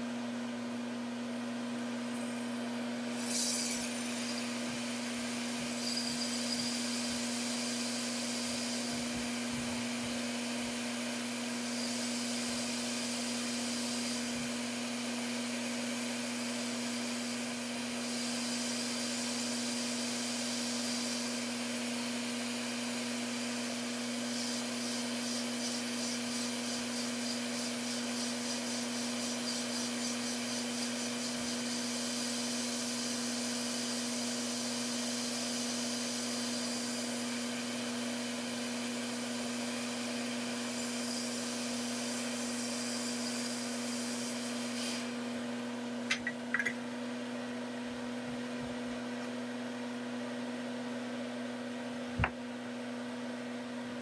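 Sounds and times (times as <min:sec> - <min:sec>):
hot-air station blowing: 0:01.8 - 0:50.6.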